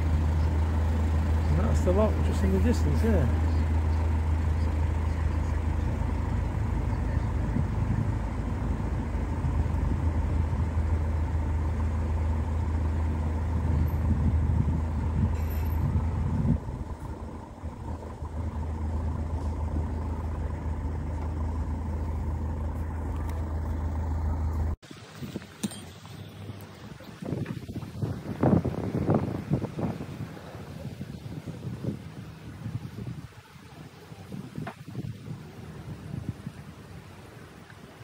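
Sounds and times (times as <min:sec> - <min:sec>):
boat diesel engine drone: 0:00.0 - 0:38.0.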